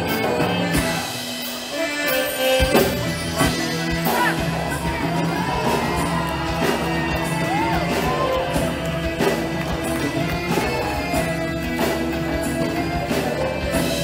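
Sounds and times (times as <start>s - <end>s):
drum kit beat: 0.0s - 14.0s
live band playing dance tune: 0.0s - 14.0s.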